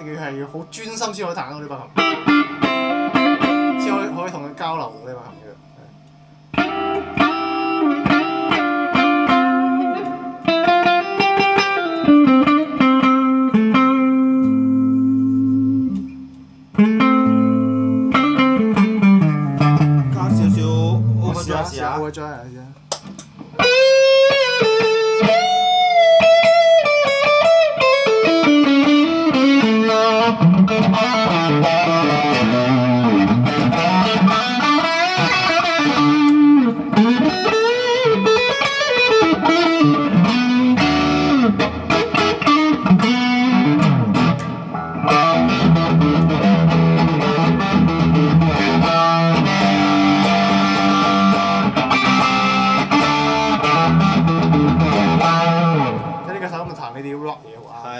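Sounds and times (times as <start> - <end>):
electric guitar hard rock lead: 2.0 - 4.2, 6.5 - 16.0, 16.7 - 21.8, 23.6 - 56.4.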